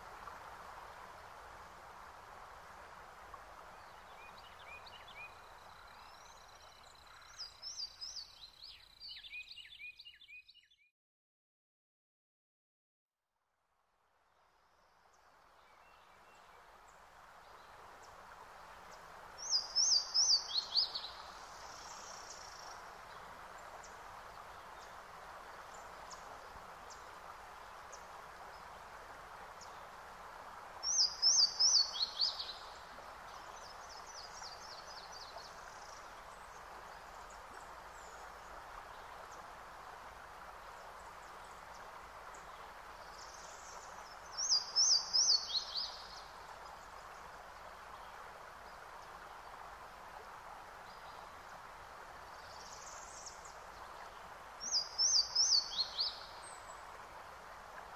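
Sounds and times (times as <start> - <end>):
steady background hiss: 0.0 - 9.8, 14.0 - 57.9.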